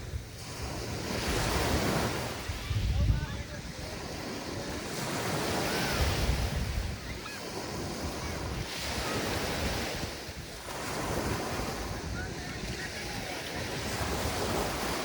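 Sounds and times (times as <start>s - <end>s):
surf breaking on a beach: 0.0s - 15.0s
wind rumble on microphone: 0.0s - 15.0s.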